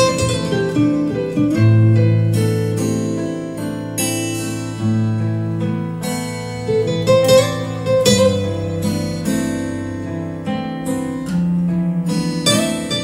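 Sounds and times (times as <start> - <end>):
acoustic guitar plucked and strummed: 0.0 - 13.0.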